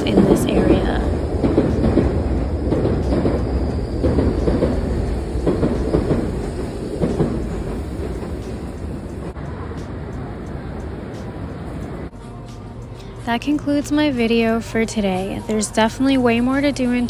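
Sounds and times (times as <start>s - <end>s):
low rumbling noise: 0.0s - 14.3s.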